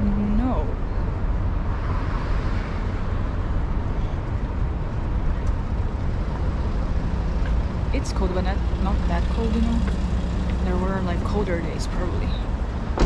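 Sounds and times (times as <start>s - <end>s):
low rumble of cars: 0.0s - 13.0s.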